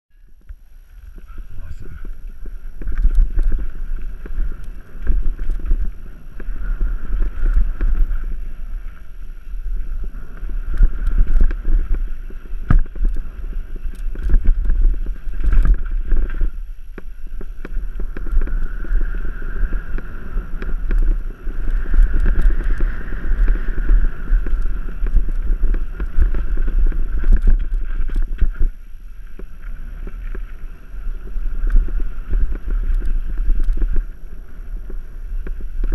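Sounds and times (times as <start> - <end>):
wind rumble on microphone: 0.1 - 35.9
tyres running over dirt: 0.3 - 35.9
bike chain and frame clicking: 2.2 - 28.6, 31.2 - 35.9.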